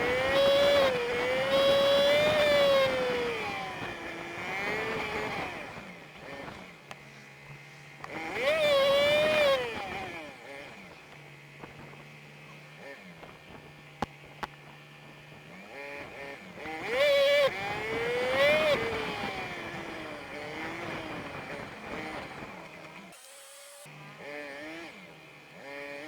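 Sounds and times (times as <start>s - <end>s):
sped-up motorcycle engine whine: 0.0s - 26.0s.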